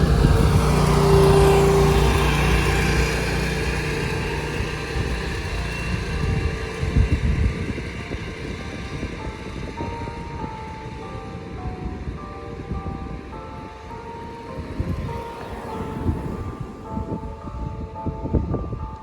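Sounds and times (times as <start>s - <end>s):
road vehicle passing by: 0.0s - 17.9s.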